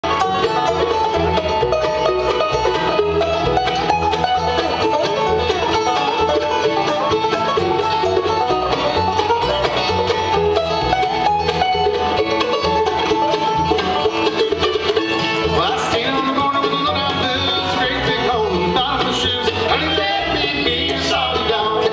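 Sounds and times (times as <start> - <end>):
bluegrass band playing: 0.0 - 21.9.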